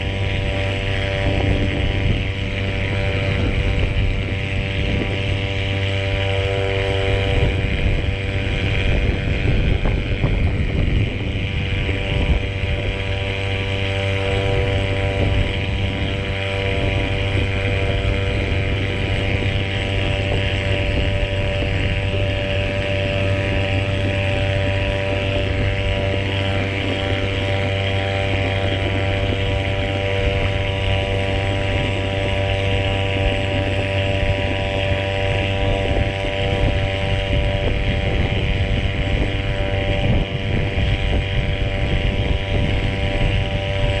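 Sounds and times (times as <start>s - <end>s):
outboard motor running: 0.0s - 44.0s
wind buffeting microphone: 0.0s - 44.0s.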